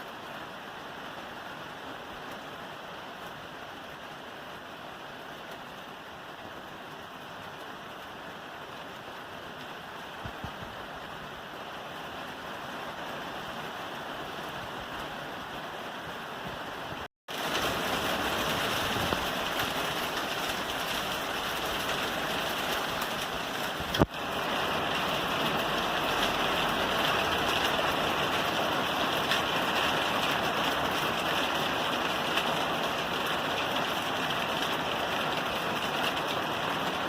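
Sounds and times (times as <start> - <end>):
rain falling on a roof: 0.0 - 37.0.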